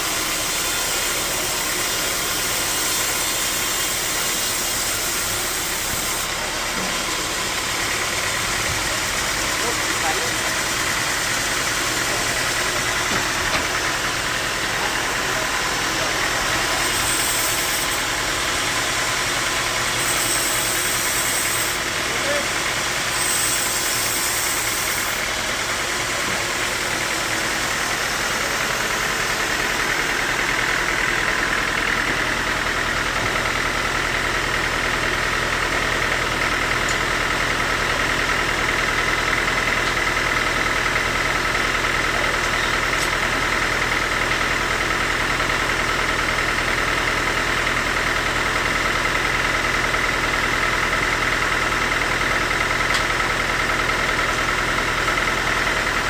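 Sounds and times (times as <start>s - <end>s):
sawmill machinery humming and whining: 0.0s - 56.0s.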